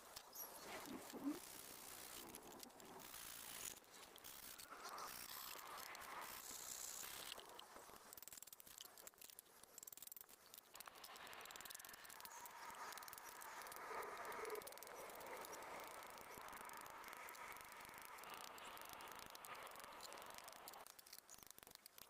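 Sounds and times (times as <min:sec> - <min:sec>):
soft clicks and ticks: 0:00.0 - 0:22.0.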